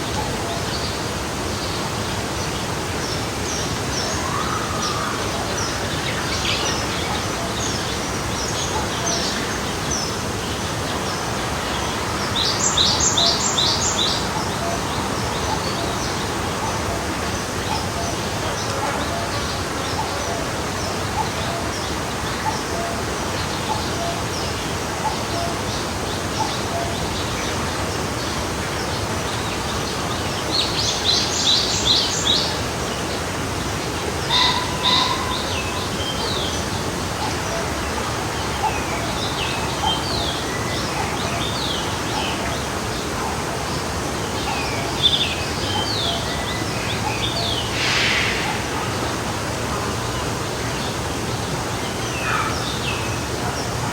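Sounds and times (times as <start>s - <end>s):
stream flowing: 0.0s - 53.9s.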